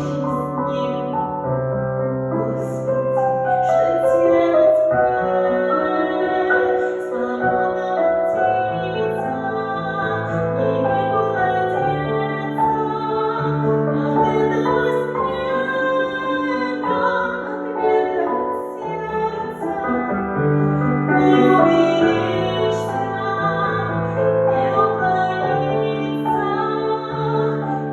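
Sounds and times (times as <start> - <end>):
woman singing opera: 0.0 - 1.5, 2.1 - 27.9.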